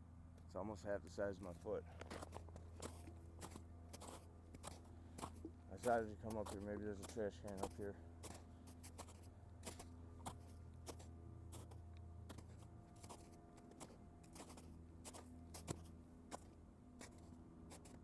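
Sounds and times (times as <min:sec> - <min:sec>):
faint low hum: 0:00.0 - 0:18.0
footsteps on icy ground: 0:00.6 - 0:18.0.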